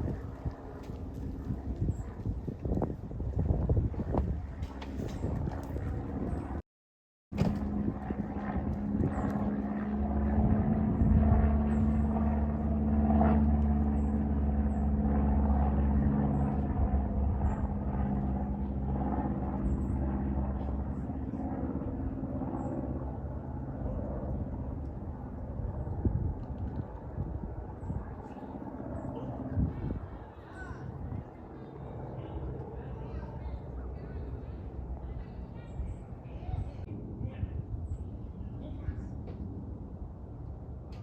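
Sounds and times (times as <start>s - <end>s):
aircraft passing over: 0.0s - 6.6s, 7.4s - 41.0s.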